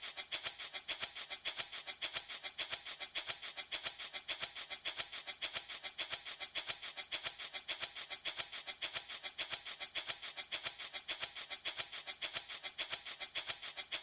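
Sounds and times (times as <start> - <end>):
baby rattle shaken: 0.0 - 14.0.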